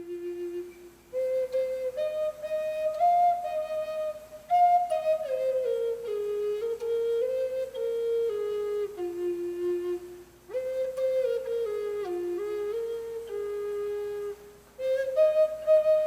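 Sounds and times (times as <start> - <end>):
flute playing slow melody: 0.0 - 16.0.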